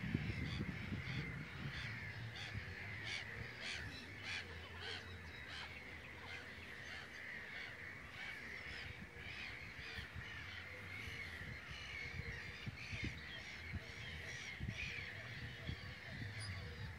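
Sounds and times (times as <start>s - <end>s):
birds cawing: 0.1s - 16.9s.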